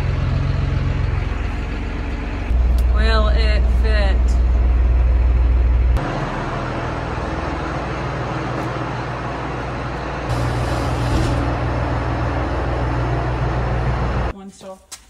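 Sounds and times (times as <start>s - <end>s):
tractor diesel engine droning: 0.0s - 14.3s.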